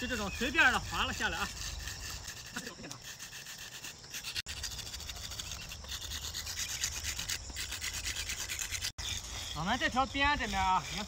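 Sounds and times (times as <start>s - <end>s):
drawing stick scraping on concrete: 0.0s - 11.0s.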